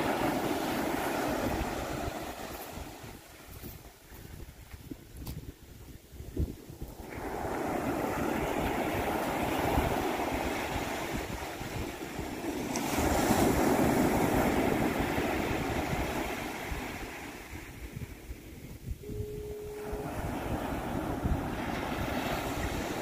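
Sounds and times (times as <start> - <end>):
waves breaking on beach: 0.0 - 4.8, 6.4 - 23.0.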